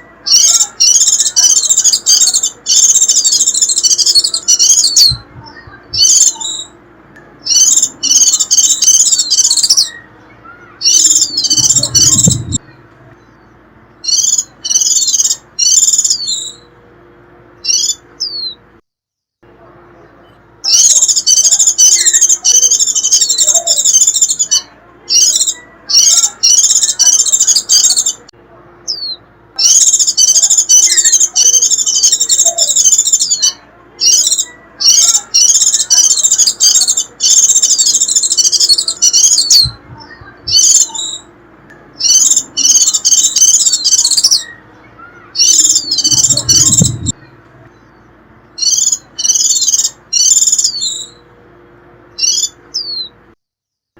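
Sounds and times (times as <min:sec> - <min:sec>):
bird twittering song: 0:00.0 - 0:16.7, 0:17.6 - 0:18.6, 0:20.0 - 0:51.3, 0:52.1 - 0:53.2.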